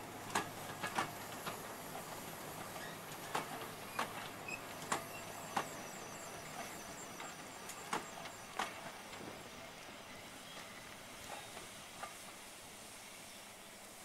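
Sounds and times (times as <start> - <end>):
train wheels clicking over rail joints: 0.0 - 12.6
low rumble of rolling coaches: 0.0 - 14.0.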